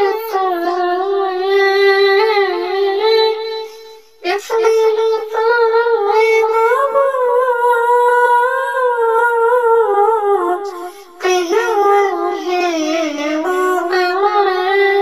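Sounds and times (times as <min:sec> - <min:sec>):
high voice singing: 0:00.0 - 0:15.0.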